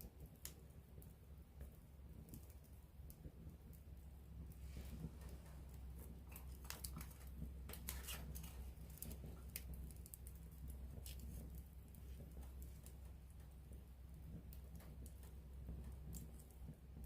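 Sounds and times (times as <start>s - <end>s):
campfire crackling: 0.0s - 17.0s
sharp pops and snaps: 0.0s - 17.0s
low steady rumble: 0.1s - 17.0s.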